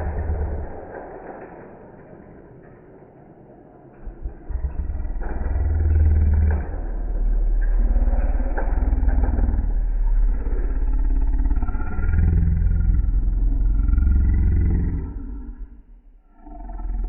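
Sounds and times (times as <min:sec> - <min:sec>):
toy cars rolling on plastic track: 0:00.0 - 0:15.2.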